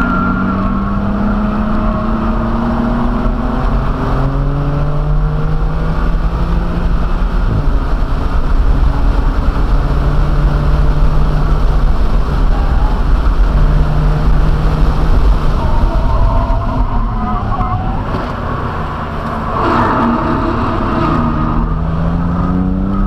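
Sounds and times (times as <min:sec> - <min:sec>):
car engine running hard: 0:00.0 - 0:23.0
road and wind rumble: 0:00.0 - 0:23.0.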